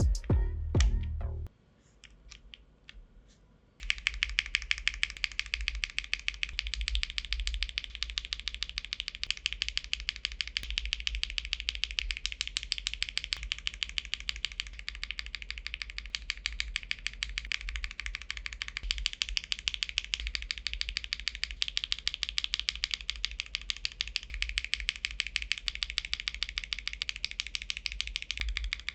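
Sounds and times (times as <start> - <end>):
fast typing on mechanical keyboard: 3.8 - 28.9.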